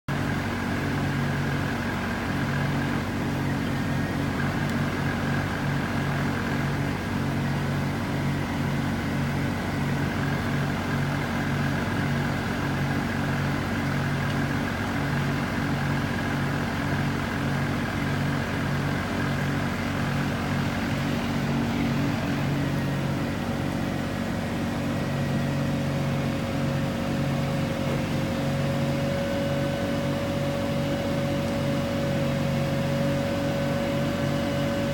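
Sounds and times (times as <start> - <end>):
machine engine running: 0.1 - 34.9
steady high whine: 0.1 - 34.9.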